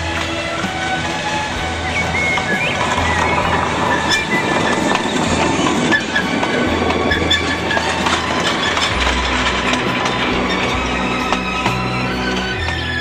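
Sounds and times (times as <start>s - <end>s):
background music: 0.0s - 13.0s
train wheels clattering on rails: 0.0s - 13.0s.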